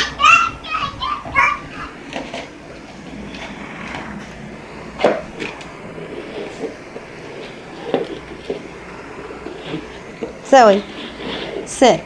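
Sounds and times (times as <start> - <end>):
dish scraping on wooden floor: 1.2 - 12.0.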